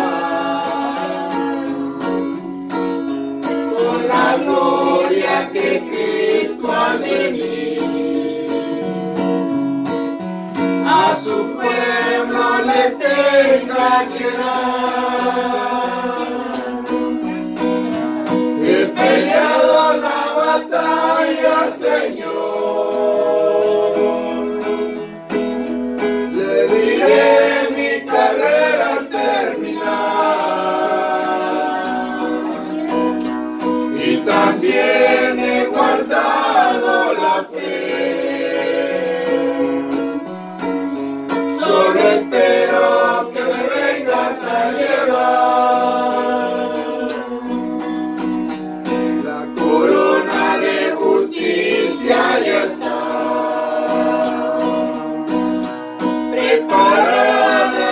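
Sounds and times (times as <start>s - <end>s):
person singing a hymn: 0.0s - 2.6s, 3.4s - 9.4s, 10.7s - 25.4s, 26.1s - 40.4s, 41.3s - 47.9s, 48.6s - 57.9s
plucked guitar: 0.0s - 57.9s.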